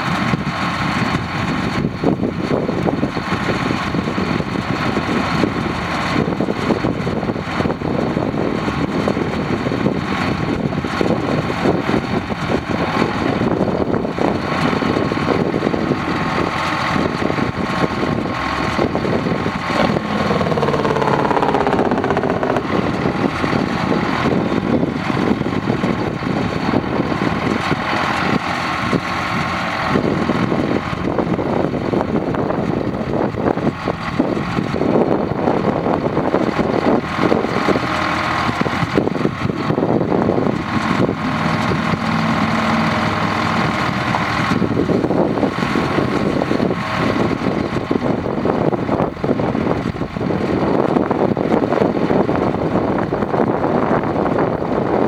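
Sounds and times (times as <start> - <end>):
truck engine running: 0.8 - 32.5, 34.4 - 55.0.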